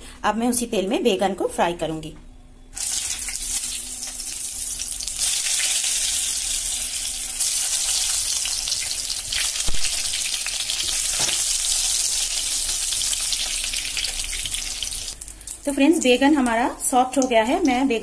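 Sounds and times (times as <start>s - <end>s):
eggplant sizzling in hot oil: 2.8s - 18.0s.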